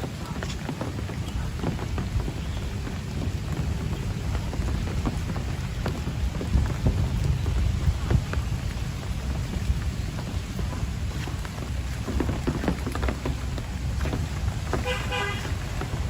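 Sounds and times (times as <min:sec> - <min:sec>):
low rumble of thunder: 0:00.0 - 0:16.0
raindrop hits: 0:00.0 - 0:16.0
steady rain: 0:00.0 - 0:16.0.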